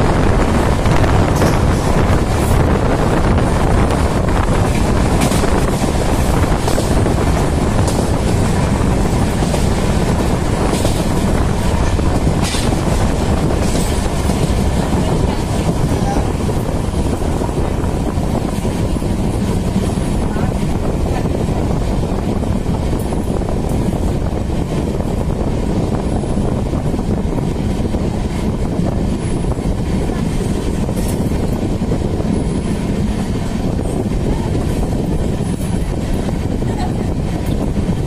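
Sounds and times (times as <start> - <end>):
train rumble and rush of air: 0.0 - 38.0.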